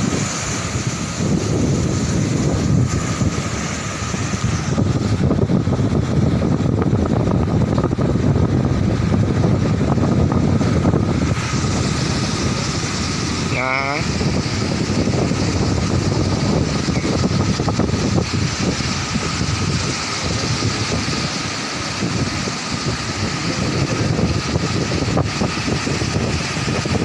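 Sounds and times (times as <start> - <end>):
surf breaking on beach: 0.0 - 27.0
wind buffeting microphone: 0.0 - 27.0.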